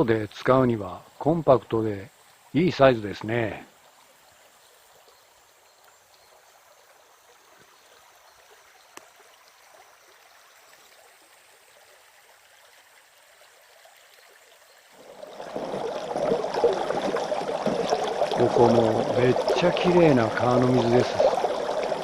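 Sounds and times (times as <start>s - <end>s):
river flowing: 1.9s - 22.0s.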